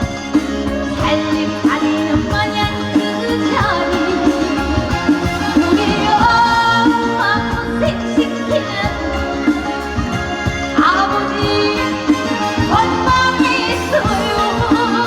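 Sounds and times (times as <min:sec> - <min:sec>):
amplified band backing track: 0:00.0 - 0:15.0
woman singing: 0:00.0 - 0:15.0.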